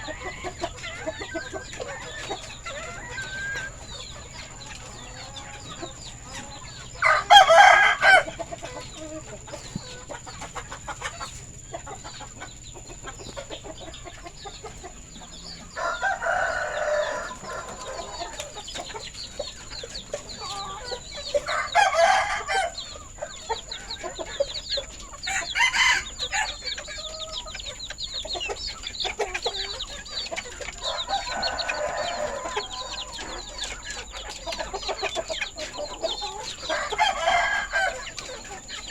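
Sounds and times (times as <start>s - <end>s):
chickens clucking chatter: 0.0s - 38.9s
chickens loud calls: 0.0s - 38.9s.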